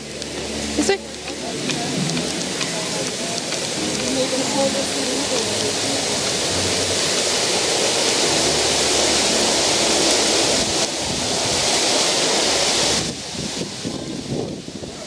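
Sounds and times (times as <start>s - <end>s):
fountain water cascading: 0.0s - 15.0s.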